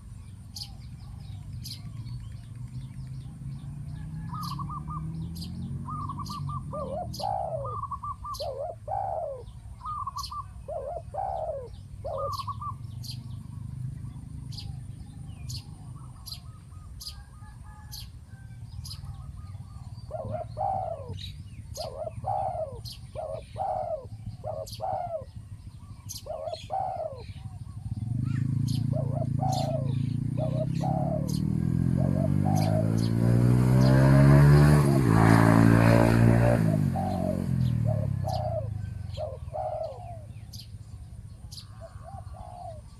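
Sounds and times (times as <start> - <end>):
birds trilling and chirping: 0.0 - 42.9
doves cooing: 0.0 - 42.9.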